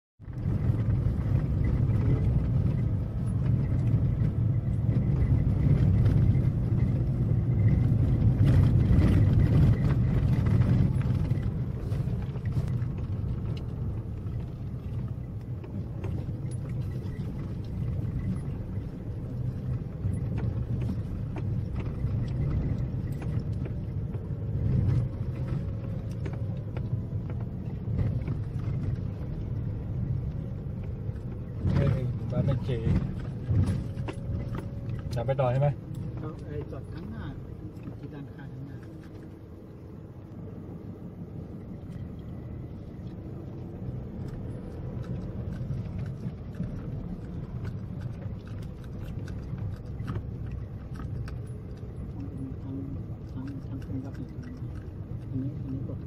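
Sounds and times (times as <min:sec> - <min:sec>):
car engine and tyres rumbling: 0:00.2 - 0:56.0.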